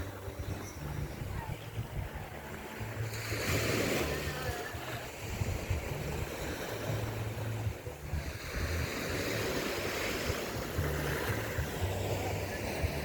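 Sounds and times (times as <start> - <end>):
ocean surf washing ashore: 0.0 - 13.0
wind buffeting microphone: 0.0 - 13.0.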